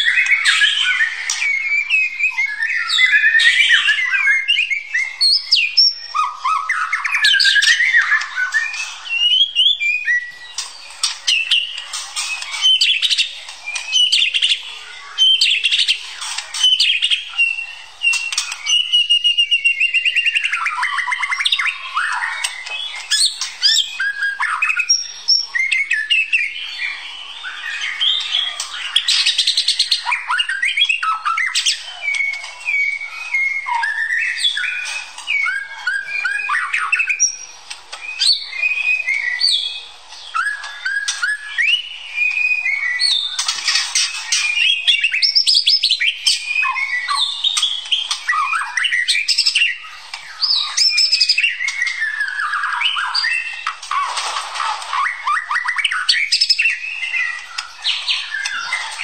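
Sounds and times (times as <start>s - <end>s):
rapid rattling bird notes: 0.0s - 59.0s
songbird singing whistles: 0.0s - 59.0s.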